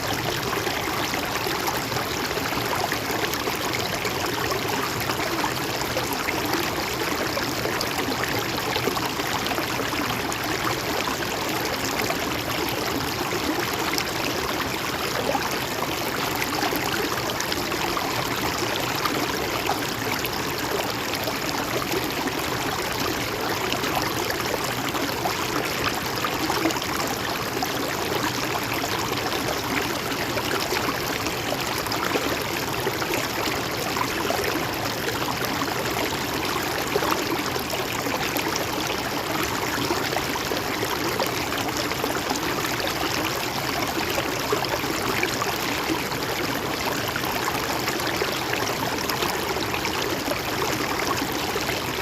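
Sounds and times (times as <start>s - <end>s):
stream running over rocks: 0.0s - 52.0s.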